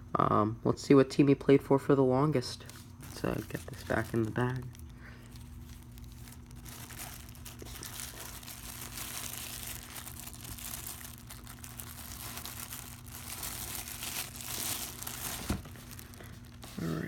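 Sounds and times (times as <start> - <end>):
steady low hum: 0.0 - 17.0
bag crinkling and rustling: 2.6 - 17.0.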